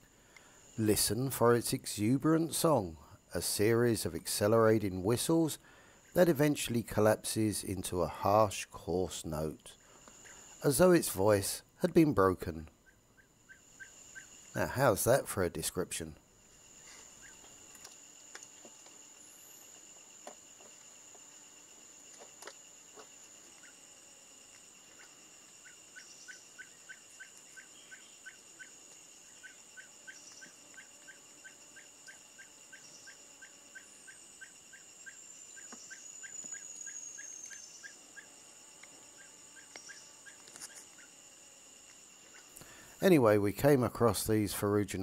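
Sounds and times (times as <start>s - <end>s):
insect buzz: 0.0s - 45.0s.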